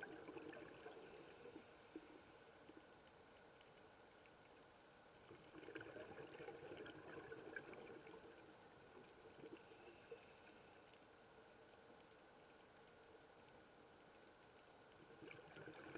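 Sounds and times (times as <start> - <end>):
faint water noise: 0.0 - 15.9.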